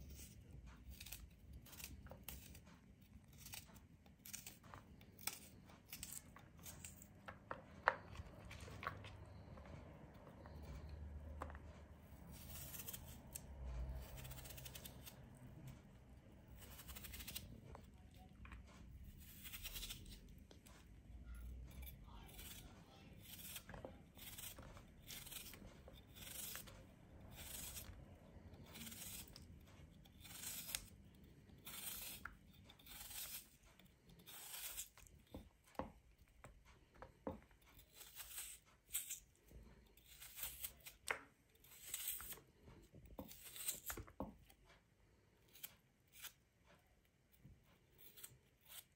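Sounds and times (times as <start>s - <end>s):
knife slicing raw potato: 0.0s - 44.8s, 45.4s - 48.9s.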